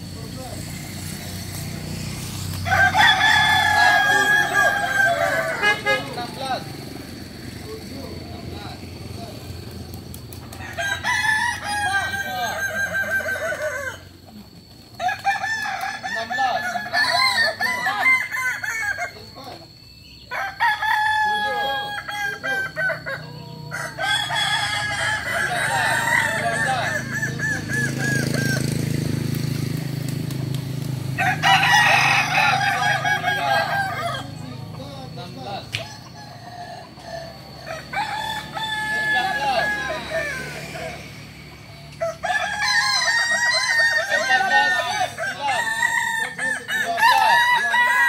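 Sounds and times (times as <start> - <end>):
roosters crowing: 0.0 - 48.0.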